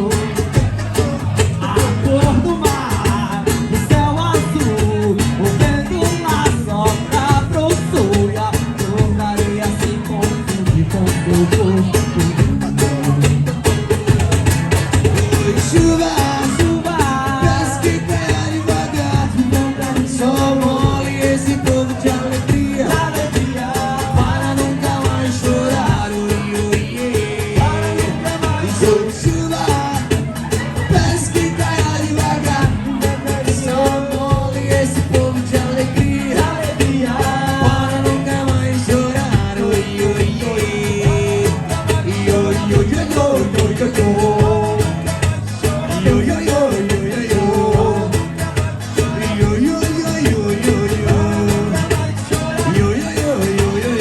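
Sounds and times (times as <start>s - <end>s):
live band playing: 0.0s - 54.0s
wordless singing: 0.0s - 54.0s.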